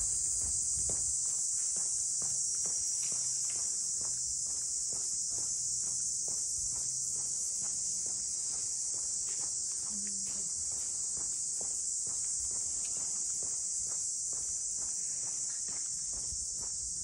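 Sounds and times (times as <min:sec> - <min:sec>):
cicadas buzzing: 0:00.0 - 0:17.0
faint footsteps on pavement: 0:00.0 - 0:17.0.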